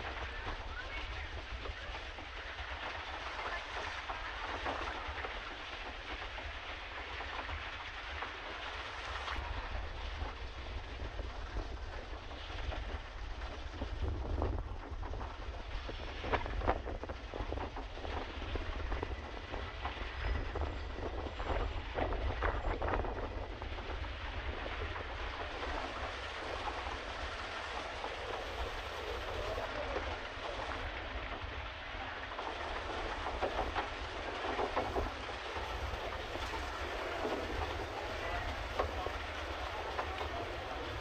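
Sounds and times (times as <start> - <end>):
paddle wheel churning water: 0.0 - 41.0
wind rumble on microphone: 0.0 - 41.0.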